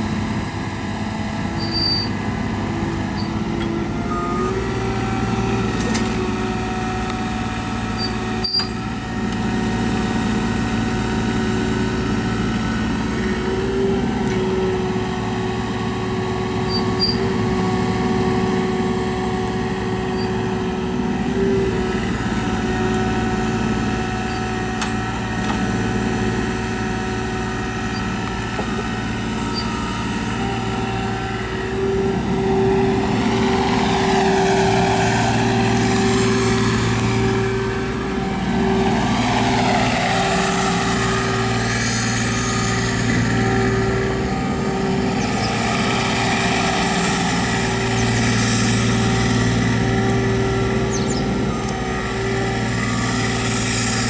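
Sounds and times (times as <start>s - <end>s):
excavator diesel engine running: 0.0s - 54.0s
hydraulic whine: 0.0s - 54.0s.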